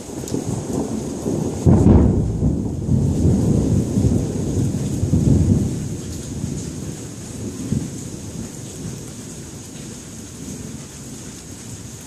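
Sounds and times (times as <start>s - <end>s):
thunder rumbling: 0.0s - 10.9s
heavy rain: 0.0s - 12.0s.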